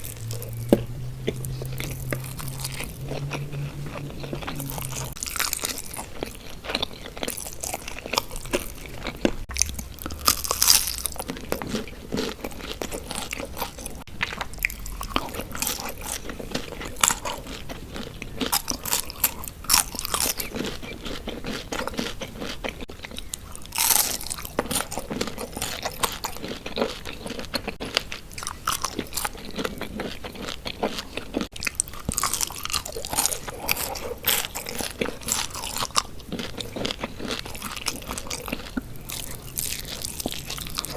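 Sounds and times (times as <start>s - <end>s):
crunching: 0.0s - 40.9s
person biting and chewing: 0.0s - 40.9s.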